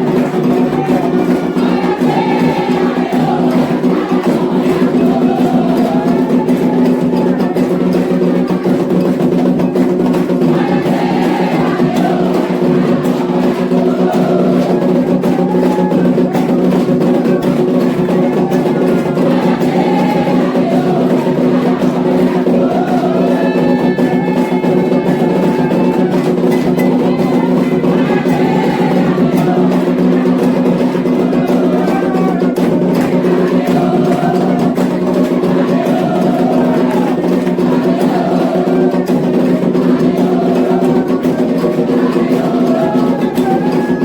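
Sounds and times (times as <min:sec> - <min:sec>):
group singing a chant: 0:00.0 - 0:44.0
hand drums and percussion rhythm: 0:00.0 - 0:44.0.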